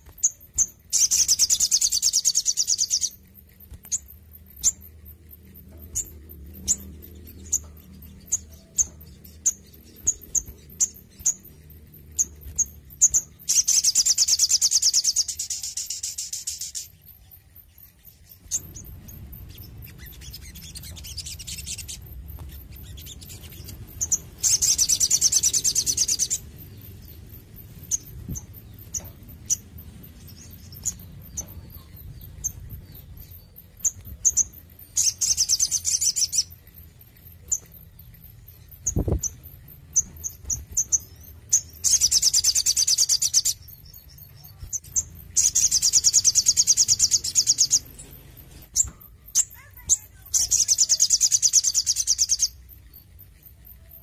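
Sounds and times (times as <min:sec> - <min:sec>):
bird singing trilled phrases: 0:00.0 - 0:54.0
bird single chirps: 0:05.9 - 0:53.1.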